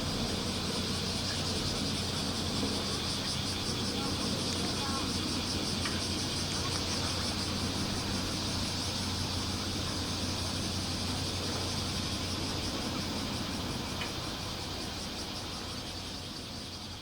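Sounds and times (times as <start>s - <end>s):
cicadas buzzing in chorus: 0.0s - 17.0s.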